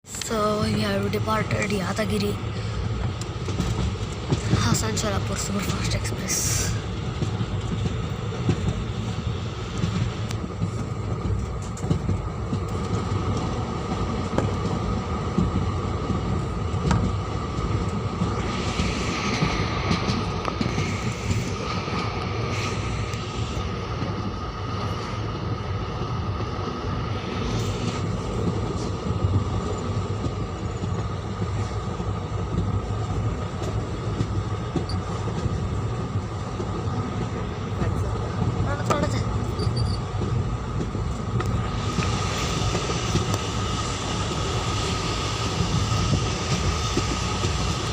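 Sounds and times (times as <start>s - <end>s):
train wheels rumbling on rail: 0.0s - 47.9s
sharp clicks of train wheels: 0.1s - 47.9s.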